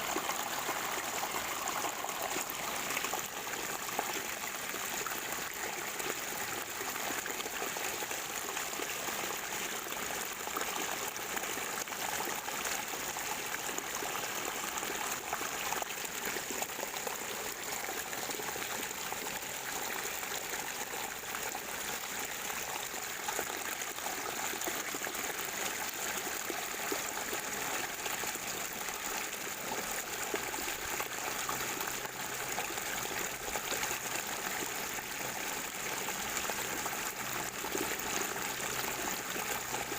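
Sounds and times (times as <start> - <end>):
spring water gurgling: 0.0 - 39.9.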